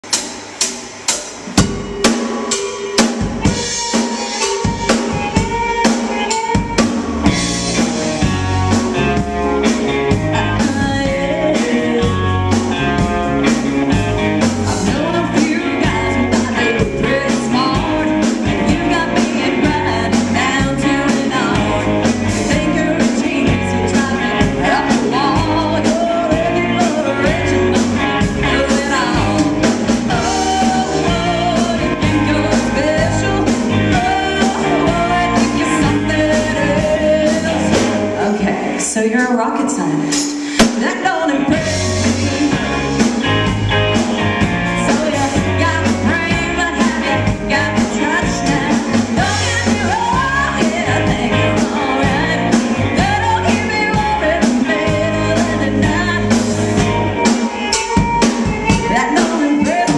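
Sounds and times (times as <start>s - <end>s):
band playing: 0.0s - 59.9s.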